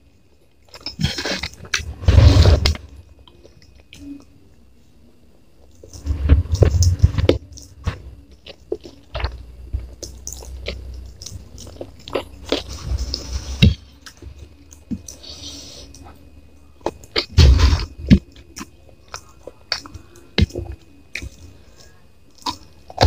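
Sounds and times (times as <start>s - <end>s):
close chewing and biting food: 0.6s - 4.2s, 5.6s - 23.0s
crunching: 0.6s - 4.4s, 5.6s - 23.0s.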